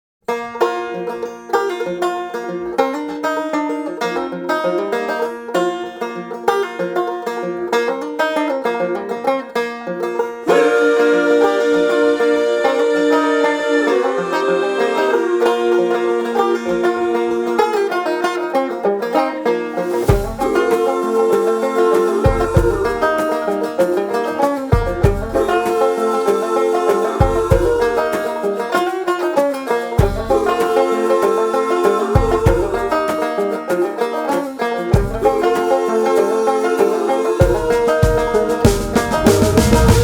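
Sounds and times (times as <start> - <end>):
fast picked banjo music: 0.3 - 40.0.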